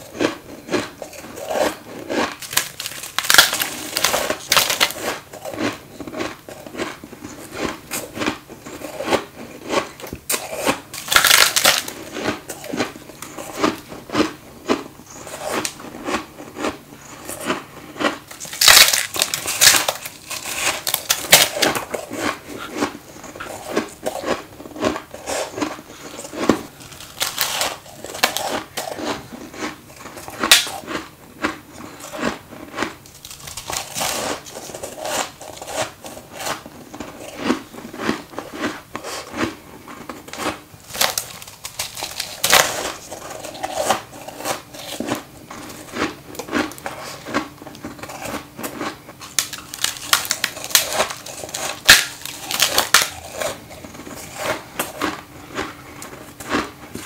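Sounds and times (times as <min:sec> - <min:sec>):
frost being bitten and chewed: 0:00.0 - 0:57.0.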